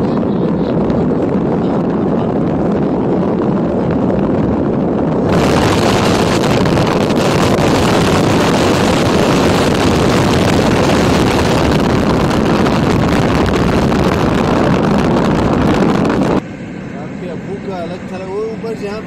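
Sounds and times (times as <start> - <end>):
wind buffeting microphone: 0.0 - 16.4
car road noise: 0.0 - 19.0.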